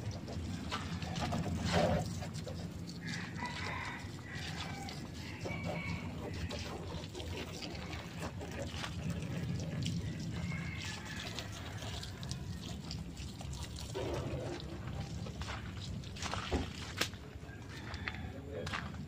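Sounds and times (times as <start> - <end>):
water dripping: 0.0 - 17.2
hose water splashing: 0.0 - 17.4.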